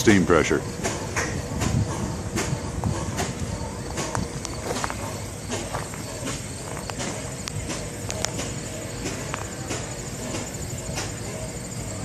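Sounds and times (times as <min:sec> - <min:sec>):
steam engine hiss and hum: 0:00.0 - 0:12.0.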